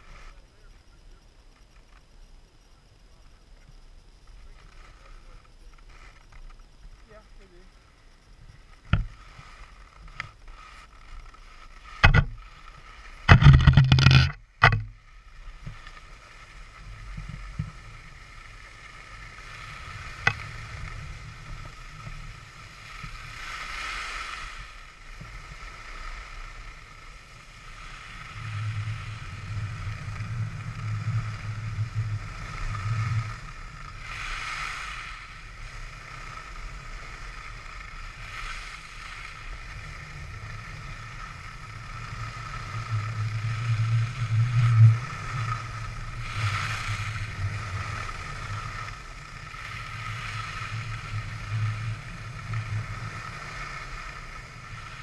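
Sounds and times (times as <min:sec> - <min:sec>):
skis scraping over snow: 0:04.4 - 0:06.3, 0:07.0 - 0:14.3, 0:15.0 - 0:55.0.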